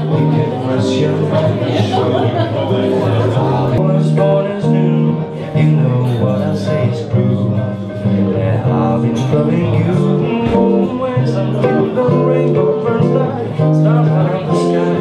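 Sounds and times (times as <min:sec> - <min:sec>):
acoustic guitar playing: 0:00.0 - 0:15.0
man singing: 0:00.0 - 0:15.0.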